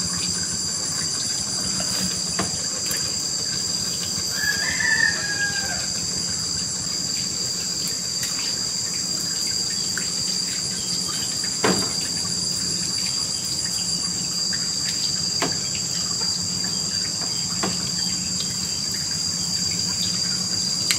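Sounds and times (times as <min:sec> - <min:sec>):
insects droning: 0:00.0 - 0:20.9.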